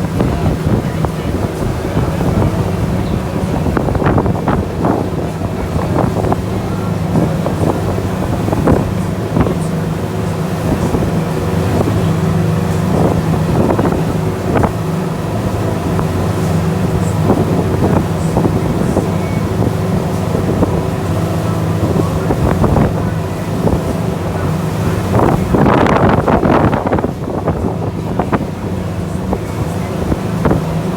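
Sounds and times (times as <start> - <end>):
boat engine droning: 0.0 - 30.9
wind buffeting microphone: 0.0 - 30.9.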